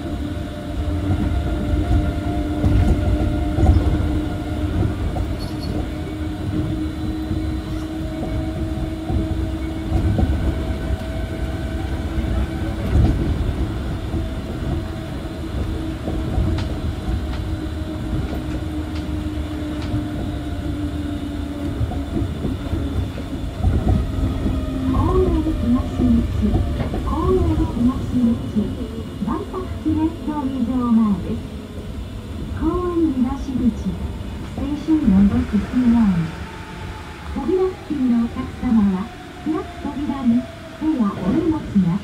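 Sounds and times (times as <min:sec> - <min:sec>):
monorail train rumbling: 0:00.0 - 0:42.0.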